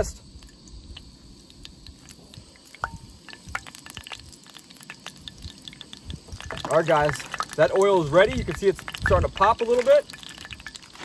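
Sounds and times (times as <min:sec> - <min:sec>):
cooking oil crackling: 0:00.0 - 0:11.0.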